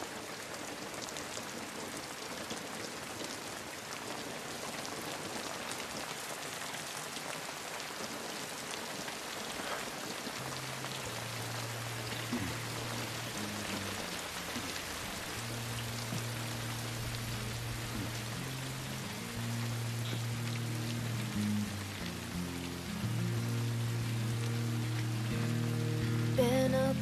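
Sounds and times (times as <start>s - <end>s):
rain pattering: 0.0s - 27.0s.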